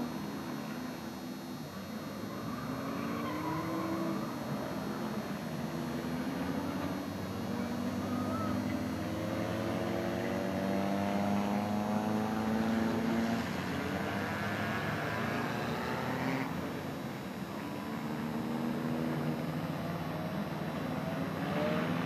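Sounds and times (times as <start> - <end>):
noisy background: 0.0 - 22.0
race car engines: 0.0 - 22.0.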